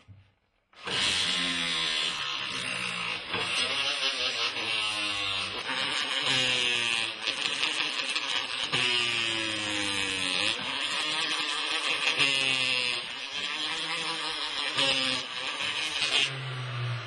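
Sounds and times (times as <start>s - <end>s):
small electric motor running: 0.8s - 17.0s.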